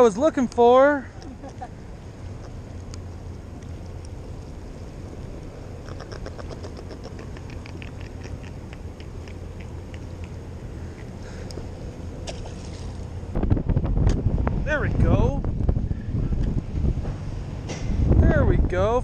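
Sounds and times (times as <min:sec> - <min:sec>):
wind buffeting microphone: 0:03.4 - 0:19.0.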